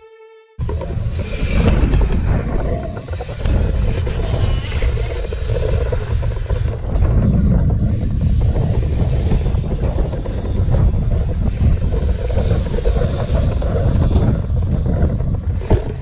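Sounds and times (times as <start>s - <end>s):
wind rushing over microphone: 0.6s - 16.0s.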